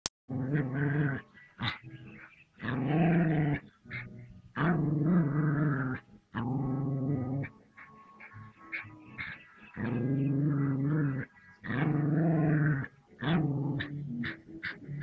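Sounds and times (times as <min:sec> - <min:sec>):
dog growling: 0:00.3 - 0:01.8, 0:02.6 - 0:07.6, 0:08.2 - 0:15.0.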